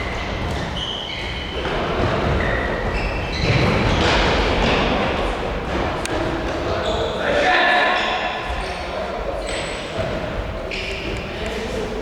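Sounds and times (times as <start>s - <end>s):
echoing indoor football game: 0.0s - 12.0s.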